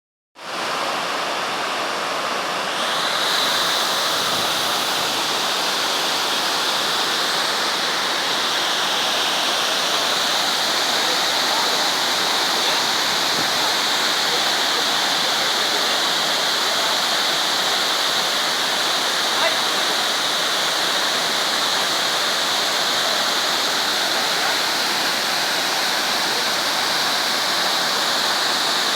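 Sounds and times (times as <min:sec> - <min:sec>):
waterfall rushing and splashing: 0:00.4 - 0:28.9.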